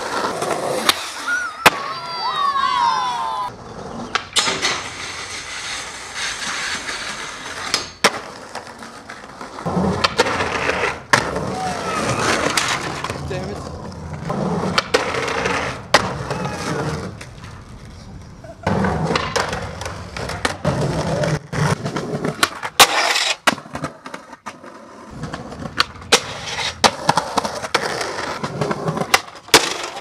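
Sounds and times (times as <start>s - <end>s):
skateboard trucks scraping: 0.0s - 30.0s
skateboard wheels rolling on concrete: 0.0s - 30.0s
skateboard clacks: 4.0s - 30.0s.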